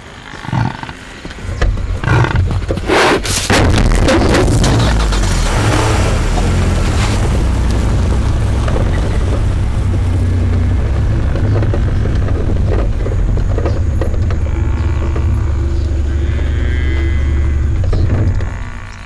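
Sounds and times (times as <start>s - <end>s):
engine running low rumble: 3.5s - 19.0s
faint engine knocks: 3.6s - 19.0s.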